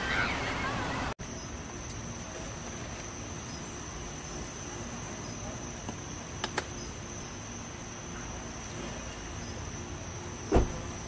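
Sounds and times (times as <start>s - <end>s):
background hiss: 0.0s - 11.0s
crickets trilling: 1.2s - 11.0s.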